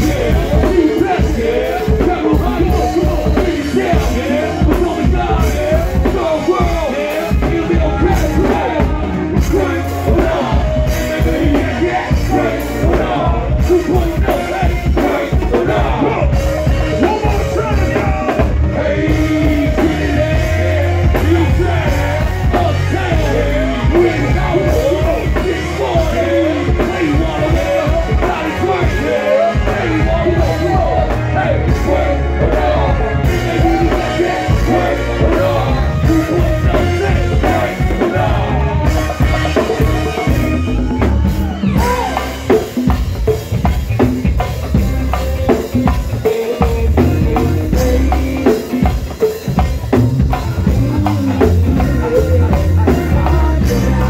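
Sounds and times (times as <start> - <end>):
bass: 0.0 - 54.0
drum kit: 0.0 - 54.0
electric guitar: 0.0 - 54.0
wavering melodic lead line: 0.0 - 54.0.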